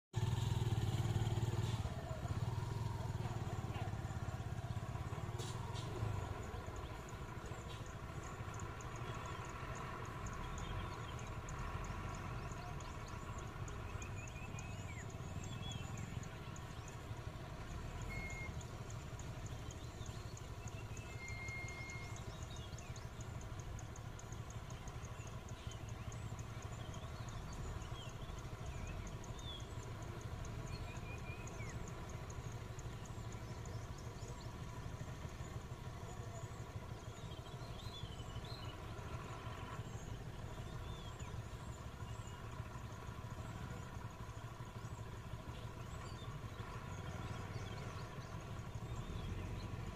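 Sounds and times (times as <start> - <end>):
vehicle engines idling: 0.0 - 49.9
bird chirps: 0.2 - 49.9.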